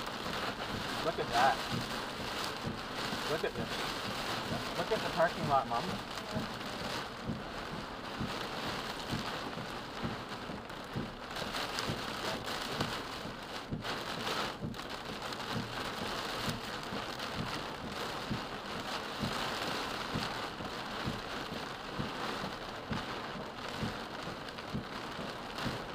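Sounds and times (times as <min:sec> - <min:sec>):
heavy rain on a car: 0:00.0 - 0:25.9.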